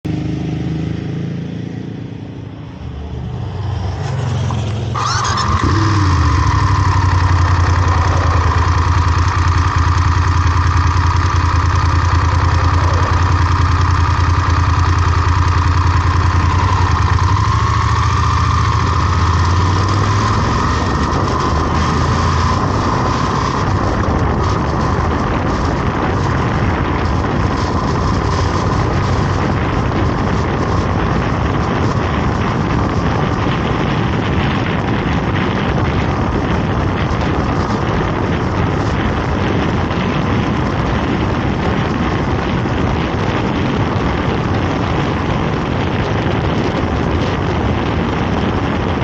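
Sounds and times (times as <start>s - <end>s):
vehicle engine droning: 0.0s - 49.0s.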